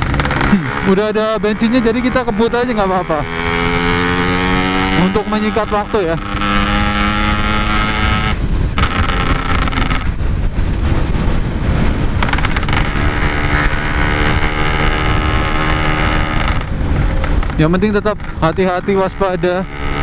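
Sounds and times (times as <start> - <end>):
two-stroke motorcycle engine: 0.0 - 10.5, 11.9 - 20.0
wind rumble on microphone: 0.0 - 20.0.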